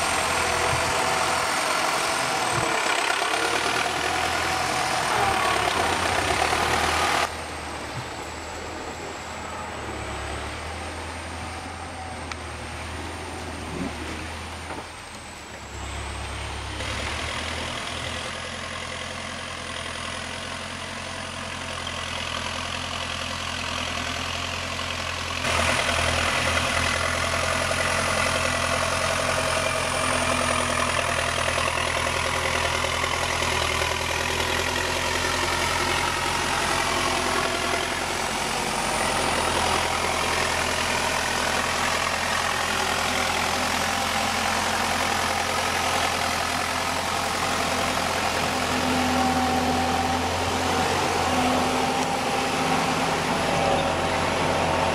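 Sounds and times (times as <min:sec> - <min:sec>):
tractor diesel engine running: 0:00.0 - 0:54.9
tyres churning through mud: 0:00.0 - 0:54.9.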